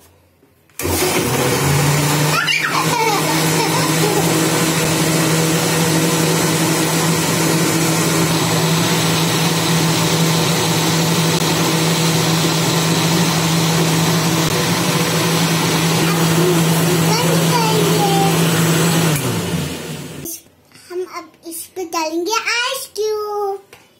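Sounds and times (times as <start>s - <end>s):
mixer grinder motor running: 0.8s - 20.3s.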